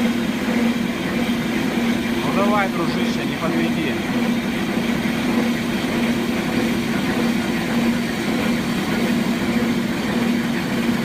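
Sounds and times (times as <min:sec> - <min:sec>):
milling machine cutting steel: 0:00.0 - 0:11.0.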